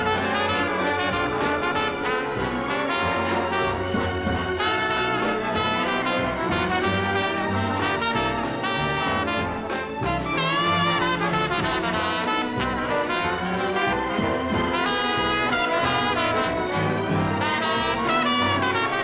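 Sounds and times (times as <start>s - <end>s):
jazz band playing: 0.0s - 19.0s
sliding brass notes: 0.0s - 19.0s
symphony orchestra playing: 0.0s - 19.0s.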